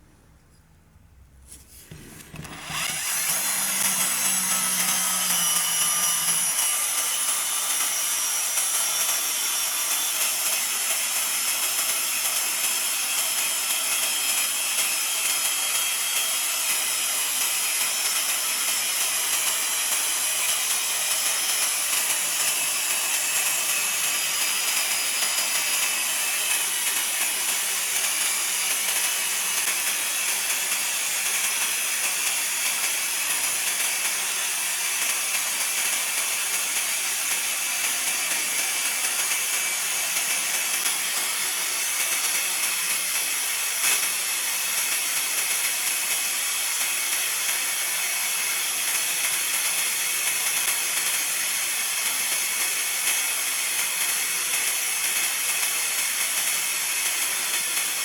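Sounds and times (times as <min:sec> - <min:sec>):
power tool grinding metal: 0:02.1 - 0:51.8.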